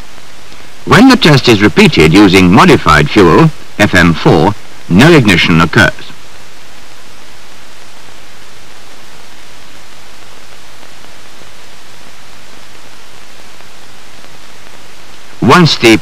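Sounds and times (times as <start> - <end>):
faint low hum: 0.0 - 16.0
film soundtrack hiss: 0.0 - 16.0.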